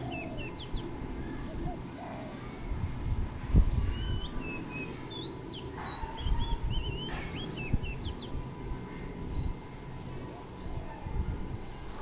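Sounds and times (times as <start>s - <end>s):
small birds chirping: 0.0s - 2.6s, 3.7s - 10.9s.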